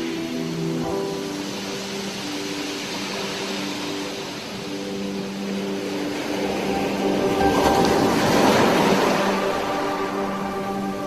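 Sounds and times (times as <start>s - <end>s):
ocean waves washing: 0.0s - 11.0s
soft sustained chord music: 0.0s - 11.0s.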